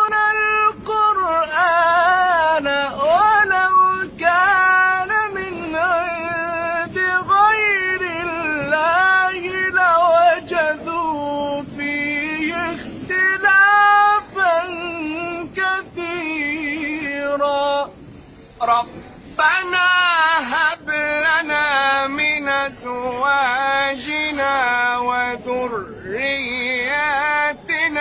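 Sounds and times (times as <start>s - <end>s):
man chanting melodically: 0.0s - 18.0s, 18.6s - 28.0s.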